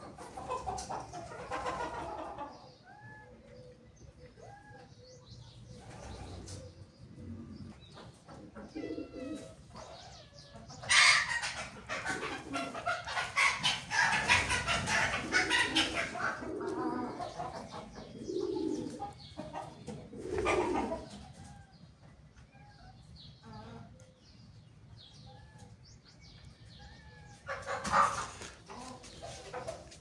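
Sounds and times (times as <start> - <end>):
birds calling: 0.0 - 30.0.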